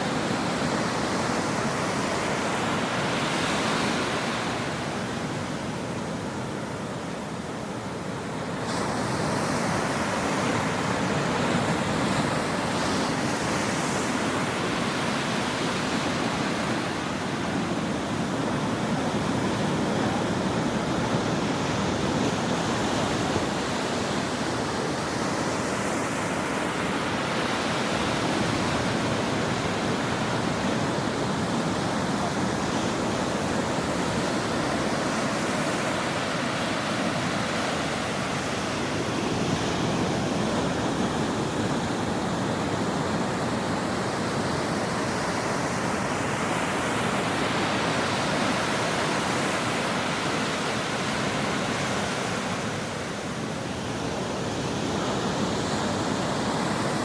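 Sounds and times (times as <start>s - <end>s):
ocean surf breaking on shore: 0.0s - 57.0s.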